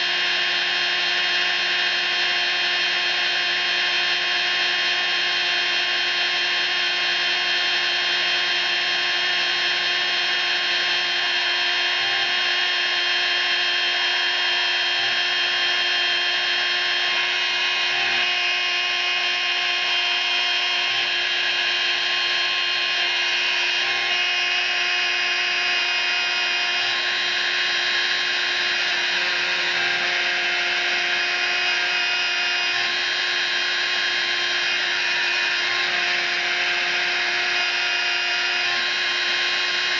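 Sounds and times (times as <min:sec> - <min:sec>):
milling machine spindle whine: 0:00.0 - 0:39.9.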